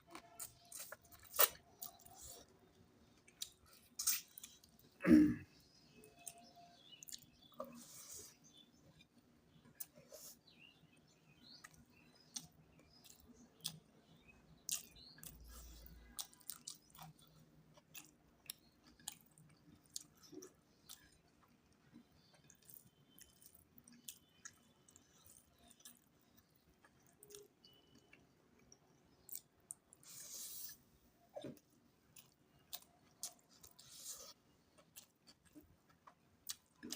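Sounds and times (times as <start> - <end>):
person chewing: 0.0 - 2.5, 3.1 - 4.7, 6.2 - 8.4, 11.6 - 13.8, 14.7 - 30.8, 31.6 - 36.9.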